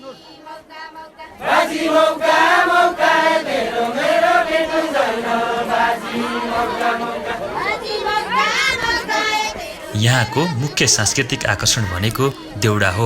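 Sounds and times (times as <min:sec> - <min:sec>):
group singing chanted folk song: 0:00.0 - 0:11.6.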